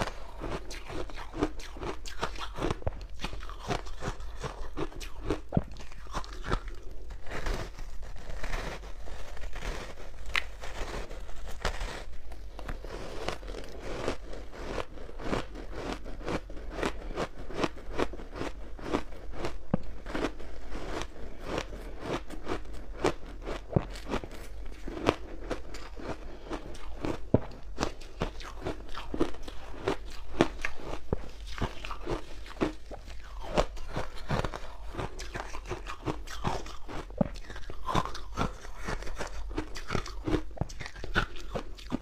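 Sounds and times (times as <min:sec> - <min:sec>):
ice being crunched and chewed: 0:00.0 - 0:42.0.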